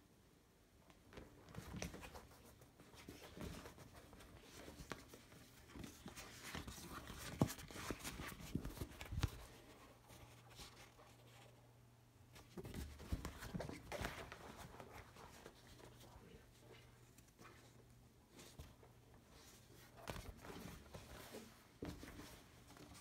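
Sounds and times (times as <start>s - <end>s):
rubber rustling and rubbing: 1.2s - 11.7s, 12.3s - 23.0s.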